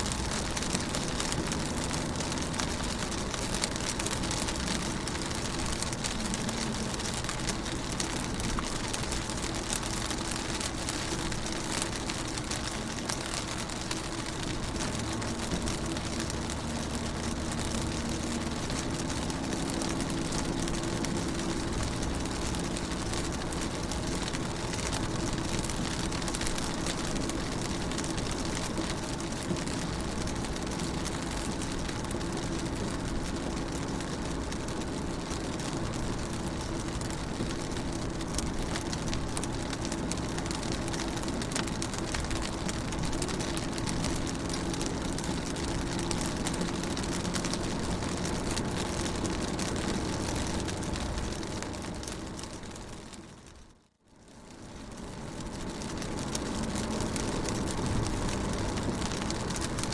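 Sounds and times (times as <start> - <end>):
rain on car windows: 0.0 - 59.9.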